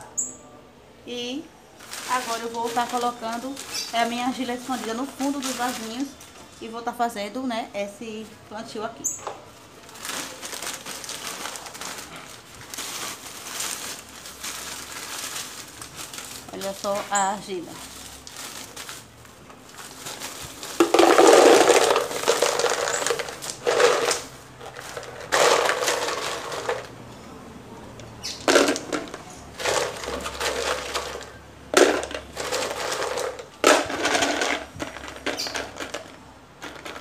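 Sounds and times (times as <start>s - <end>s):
clay pebbles rattling into plastic pots: 1.1s - 27.3s, 28.0s - 37.0s.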